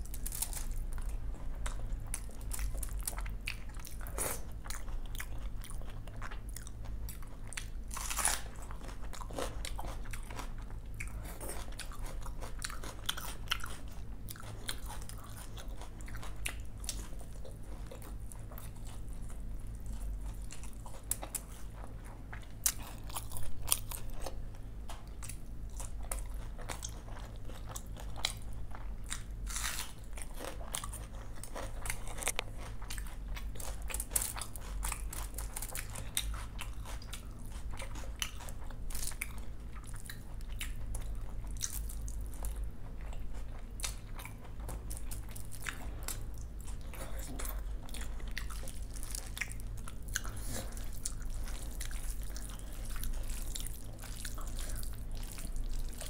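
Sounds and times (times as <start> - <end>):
chewing and wet mouth sounds: 0.0 - 56.0
steady low hum: 0.0 - 56.0.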